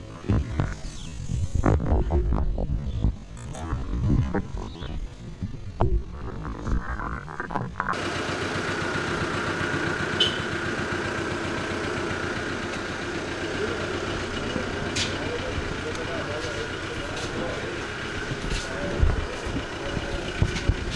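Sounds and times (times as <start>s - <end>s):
vehicle engine idling: 0.0s - 20.9s.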